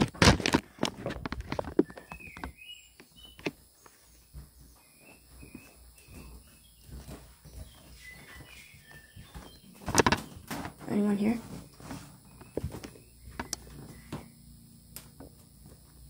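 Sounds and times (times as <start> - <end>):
footsteps on wooden floor: 0.0 - 14.3.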